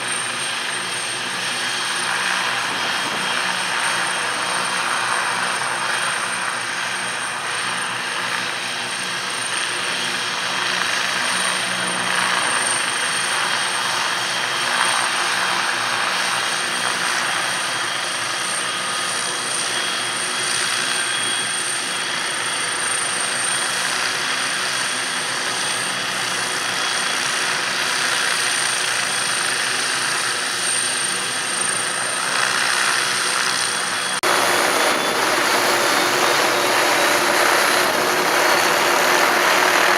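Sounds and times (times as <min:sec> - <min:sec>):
helicopter rotors running: 0:00.0 - 0:39.9
high turbine whine: 0:00.0 - 0:39.9.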